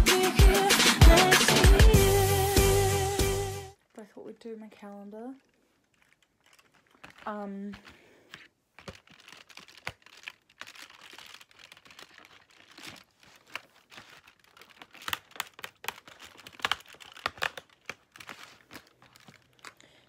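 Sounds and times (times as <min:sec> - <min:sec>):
cardboard and paper crinkling: 0:03.8 - 0:20.0.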